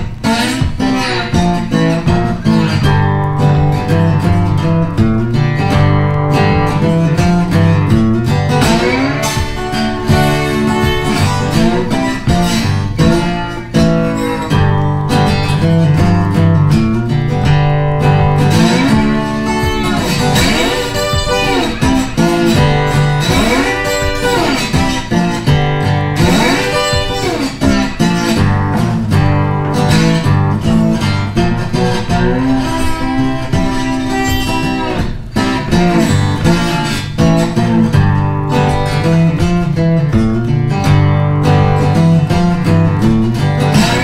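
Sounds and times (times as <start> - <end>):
guitar music: 0.0 - 44.0.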